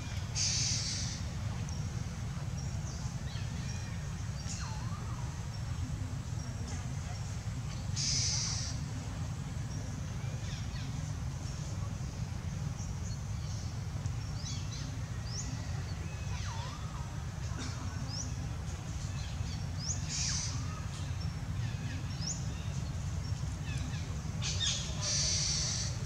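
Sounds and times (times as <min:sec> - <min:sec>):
birds chirping: 0:00.0 - 0:26.0
low curving bird calls: 0:00.0 - 0:26.0.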